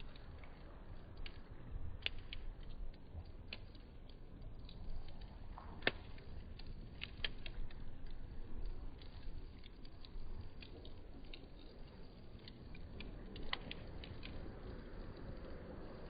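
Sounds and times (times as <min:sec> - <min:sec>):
low steady rumble: 0:00.0 - 0:16.0
wood fire crackling: 0:00.0 - 0:16.0.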